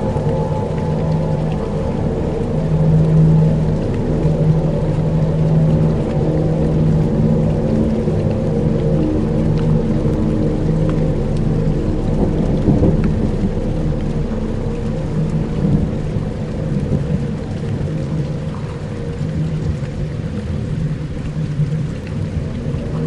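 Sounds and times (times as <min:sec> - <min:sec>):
low sustained drones: 0:00.0 - 0:23.0
rumbling rain-like noise: 0:00.0 - 0:23.0.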